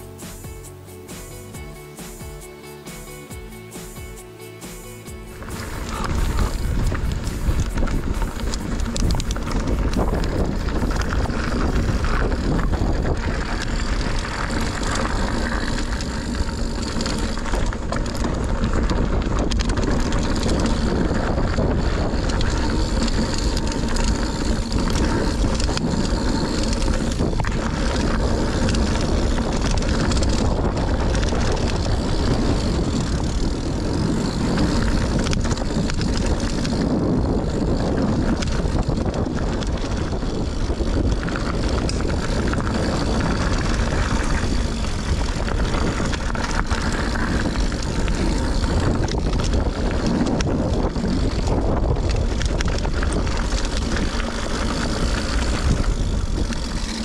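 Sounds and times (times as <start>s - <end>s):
bike clicks and rattles: 0.0s - 57.0s
bike tyres rolling on dirt: 0.0s - 57.0s
wind buffeting microphone: 5.1s - 57.0s.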